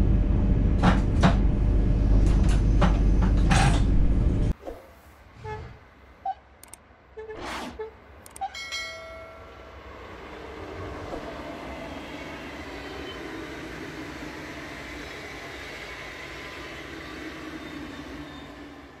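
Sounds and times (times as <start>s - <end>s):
electric train rumbling on track: 0.0s - 4.6s, 5.2s - 19.0s.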